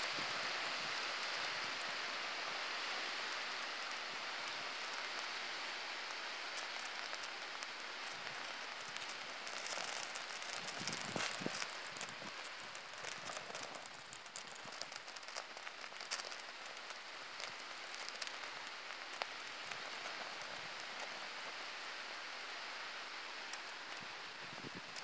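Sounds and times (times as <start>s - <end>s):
firelighters burning with soft hiss: 0.0s - 25.0s
small fire crackles: 0.0s - 25.0s.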